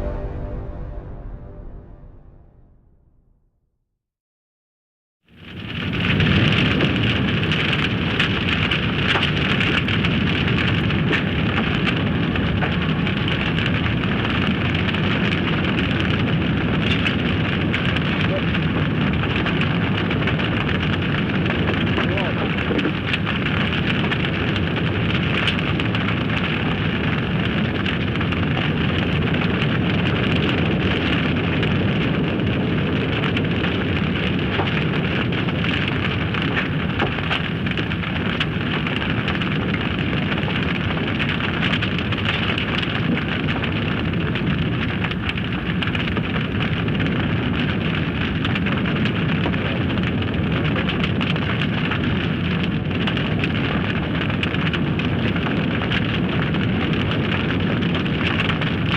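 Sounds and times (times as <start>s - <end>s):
forest fire crackling: 5.3s - 58.9s.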